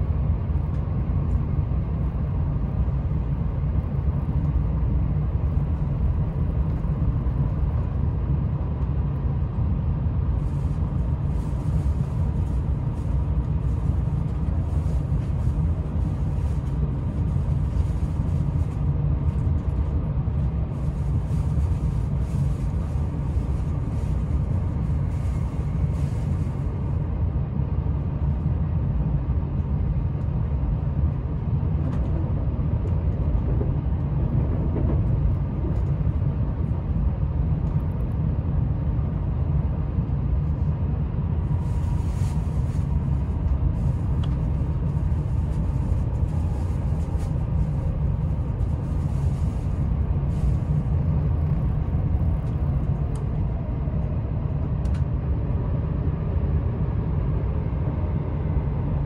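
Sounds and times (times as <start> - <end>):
train running low rumble: 0.0 - 59.0.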